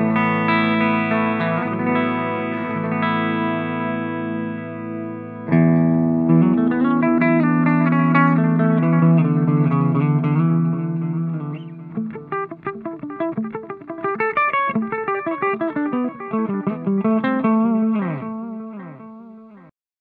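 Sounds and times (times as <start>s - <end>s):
electric guitar with delay echoes: 0.0s - 19.7s.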